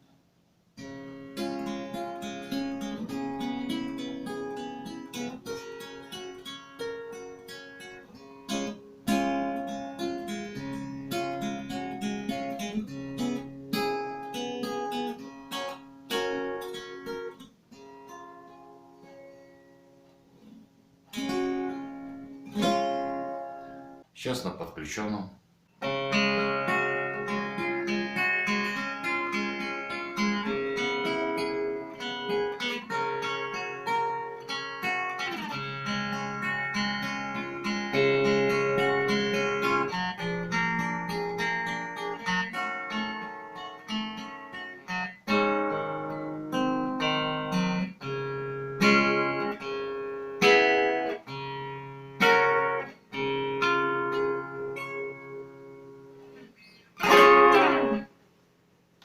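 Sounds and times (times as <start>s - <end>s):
acoustic guitar picking and strumming: 0.7s - 24.0s, 25.8s - 58.2s.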